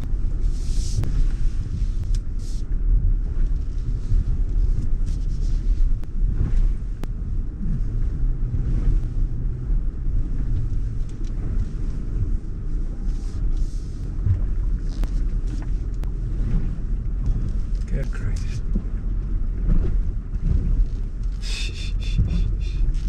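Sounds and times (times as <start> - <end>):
engine and tyres rumbling: 0.0 - 23.0.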